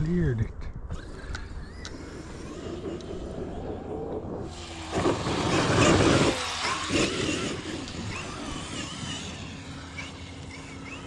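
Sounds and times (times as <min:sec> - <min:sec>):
faint wavering motor whine: 0:00.0 - 0:11.0
rc truck tire and drivetrain noise: 0:00.0 - 0:11.0.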